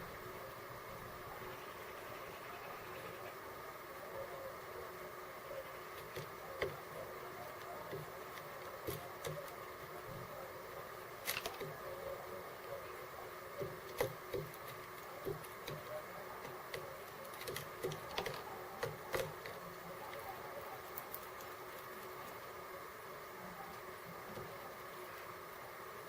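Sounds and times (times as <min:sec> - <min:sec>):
birds pecking seeds: 0:00.0 - 0:26.0
steady hum: 0:00.0 - 0:26.0.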